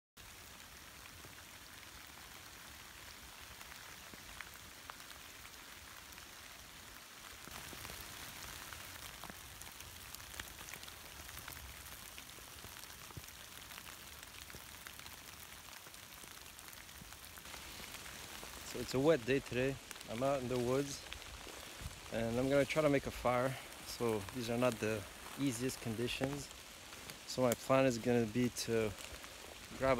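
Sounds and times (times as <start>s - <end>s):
rain on leaves in forest: 0.2s - 29.9s.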